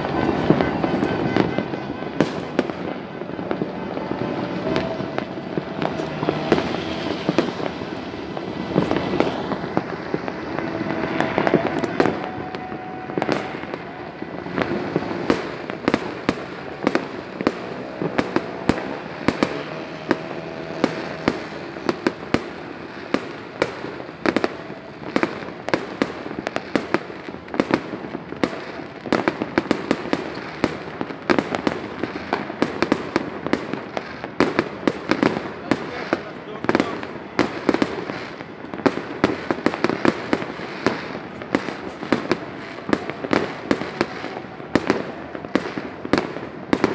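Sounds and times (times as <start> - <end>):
distant firework booms: 0.0 - 46.9
firecracker bangs and pops: 0.0 - 46.9.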